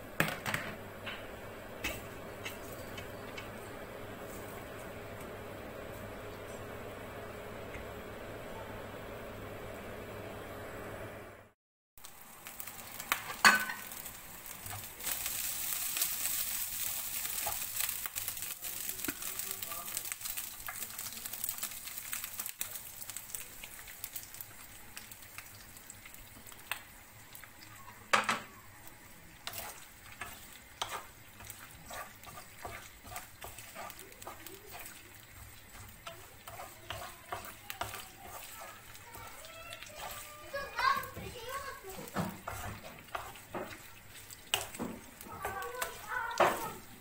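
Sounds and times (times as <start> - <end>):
food sizzling in a frying pan: 0.0 - 11.2, 12.0 - 47.0.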